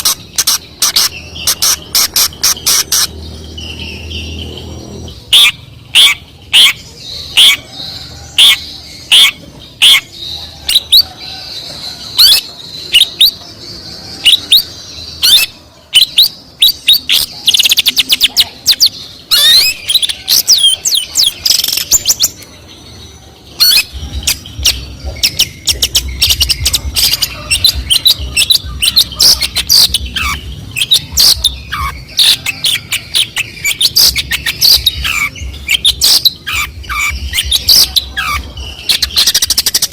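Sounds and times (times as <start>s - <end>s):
bird singing loudly: 0.0s - 39.9s.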